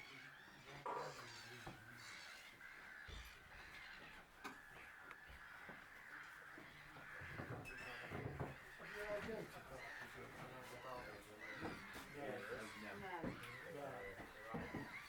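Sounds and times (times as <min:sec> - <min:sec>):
distant birds calling: 0:00.0 - 0:15.0.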